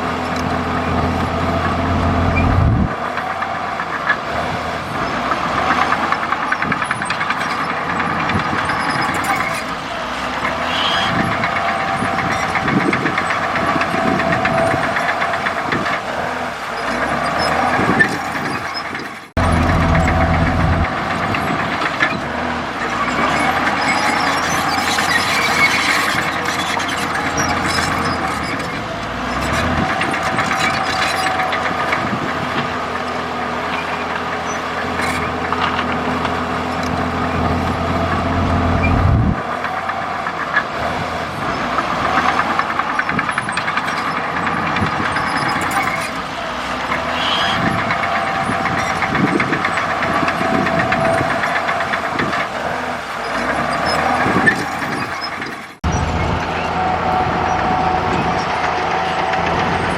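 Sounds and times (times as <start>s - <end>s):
bulldozer diesel engine: 0.0s - 59.9s.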